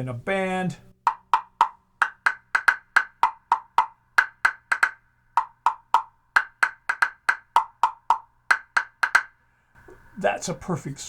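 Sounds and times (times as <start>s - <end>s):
wood block knocks: 1.1s - 10.1s.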